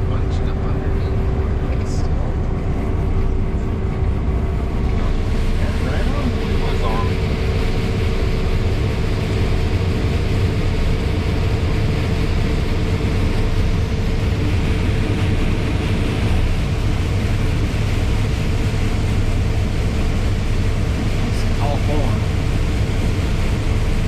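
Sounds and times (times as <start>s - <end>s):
farm machinery engine drone: 0.0s - 24.0s.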